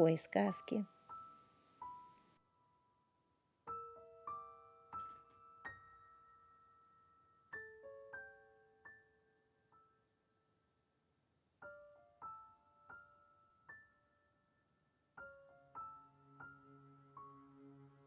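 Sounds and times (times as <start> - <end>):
piano music: 0.0 - 10.0, 11.6 - 14.4, 15.2 - 18.0.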